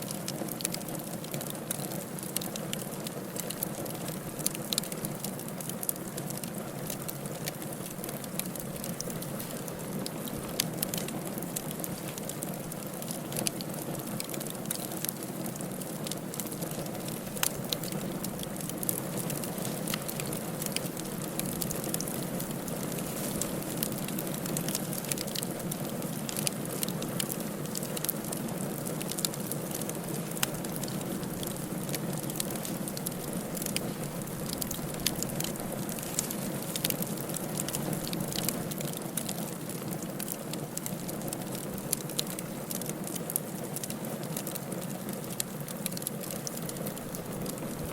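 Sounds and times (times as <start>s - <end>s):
wood crackling and popping: 0.0s - 47.9s.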